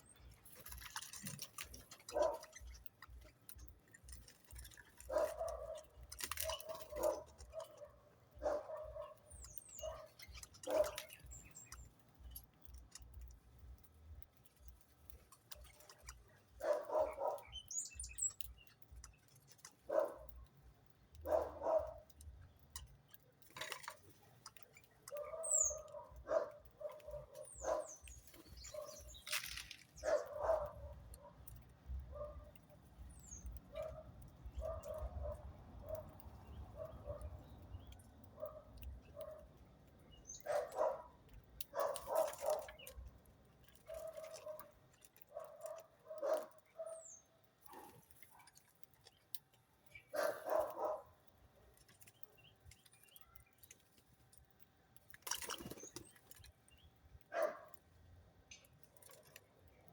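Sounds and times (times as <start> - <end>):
birds calling: 0.0 - 13.0, 14.5 - 20.4, 21.0 - 53.8.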